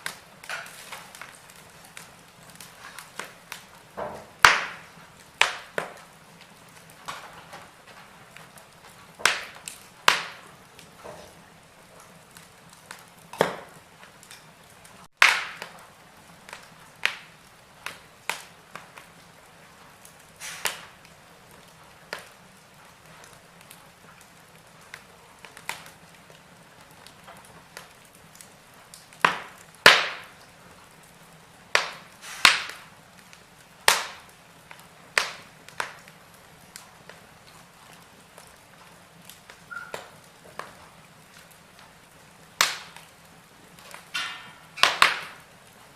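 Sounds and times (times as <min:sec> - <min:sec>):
fire hissing: 0:00.0 - 0:45.9
wood fire crackling: 0:00.0 - 0:45.9.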